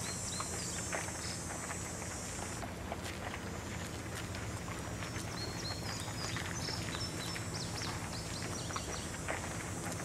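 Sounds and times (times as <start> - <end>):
songbirds chirping: 0.0 - 2.6, 3.4 - 10.0
steady low hum: 0.0 - 10.0.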